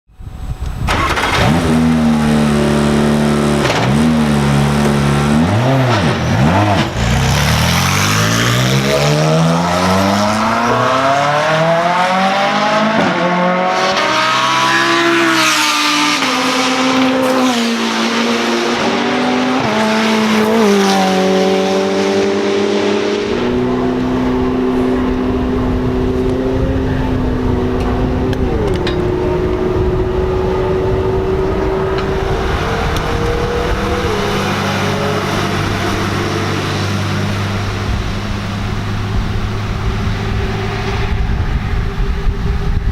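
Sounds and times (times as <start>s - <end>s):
race car engine revving: 0.8s - 42.9s.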